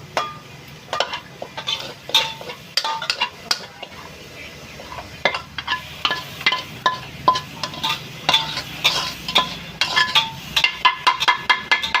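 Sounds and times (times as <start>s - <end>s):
metal utensil clinking on a pan: 0.0s - 4.2s, 4.8s - 12.0s.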